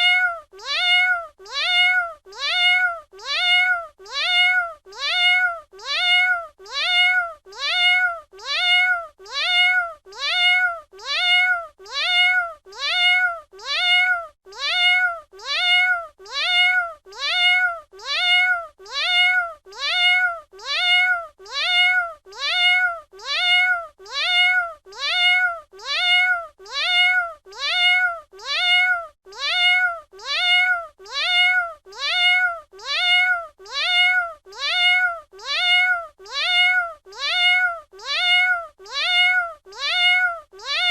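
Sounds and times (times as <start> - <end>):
cat meowing: 0.0 - 40.9.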